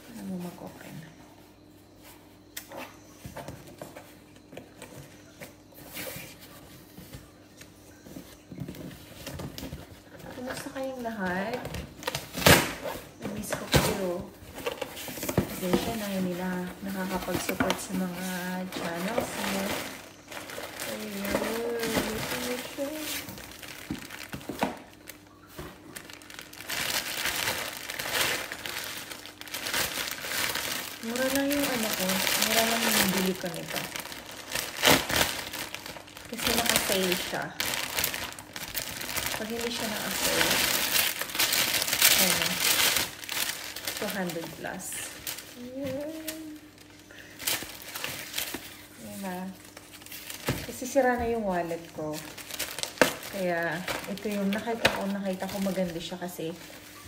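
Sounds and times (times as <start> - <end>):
plastic wrapping crinkling: 2.4 - 57.0.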